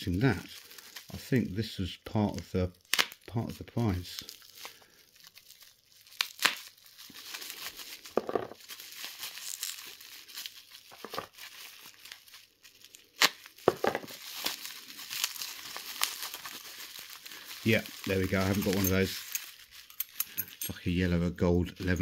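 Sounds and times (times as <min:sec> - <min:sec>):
bubble wrap crinkling and tearing: 0:00.0 - 0:20.6.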